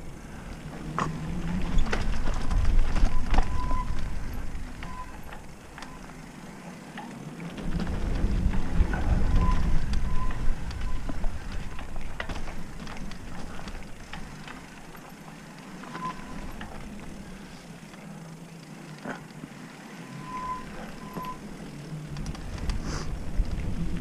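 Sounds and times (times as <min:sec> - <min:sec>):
bike clicking and rattling: 0:00.0 - 0:24.0
bike tyres rumbling over dirt: 0:00.0 - 0:24.0.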